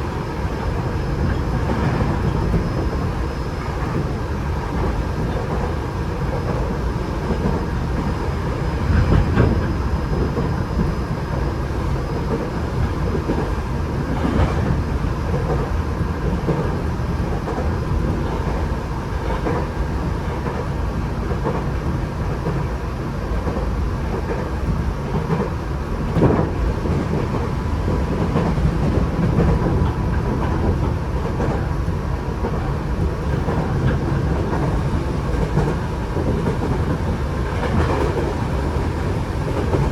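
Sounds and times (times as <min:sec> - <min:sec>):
faint train whine: 0:00.0 - 0:39.9.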